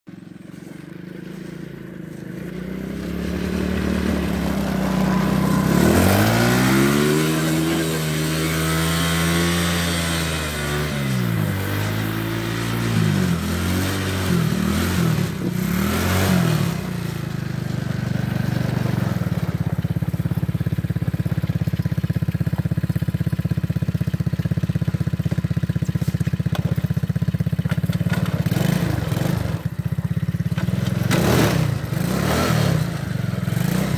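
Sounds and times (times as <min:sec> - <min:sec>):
quad bike engine revving: 0:00.1 - 0:33.9.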